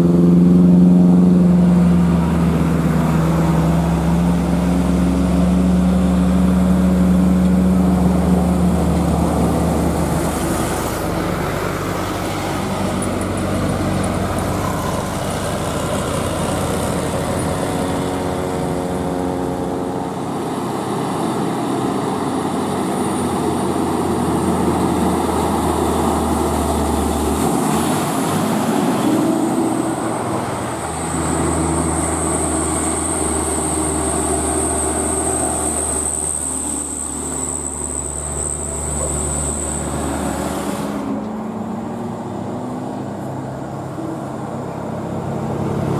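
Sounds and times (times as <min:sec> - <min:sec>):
truck engine labouring: 0:00.0 - 0:45.9.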